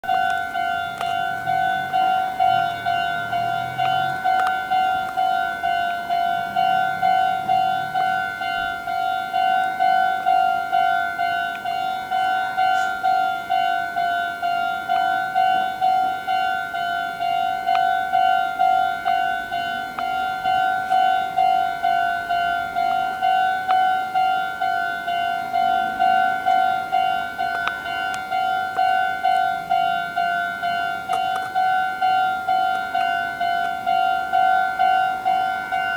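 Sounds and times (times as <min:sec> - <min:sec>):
level crossing warning bell: 0:00.0 - 0:35.9.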